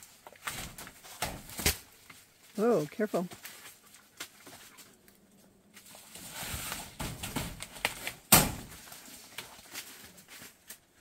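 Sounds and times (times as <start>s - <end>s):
leafy vines rustling: 0.0s - 11.0s.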